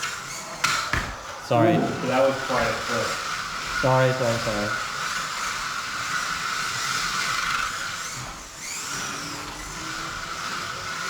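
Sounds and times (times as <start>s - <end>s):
small electric motors whining: 0.0s - 11.0s.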